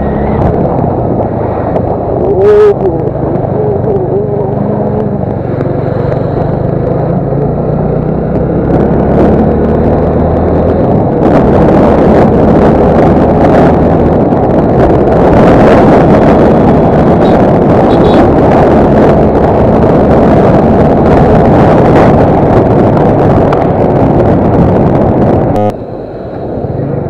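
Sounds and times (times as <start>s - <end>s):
motorcycle engine running: 0.0s - 25.8s
wind noise on microphone: 0.0s - 27.0s.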